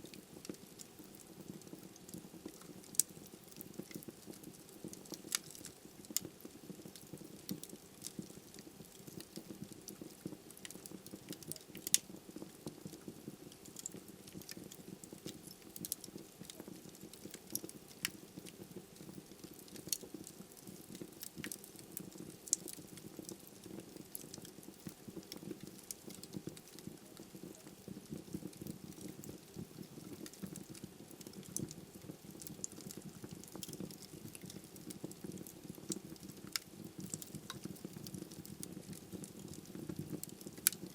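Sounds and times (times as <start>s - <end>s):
burning logs crackling and popping: 0.0s - 40.9s.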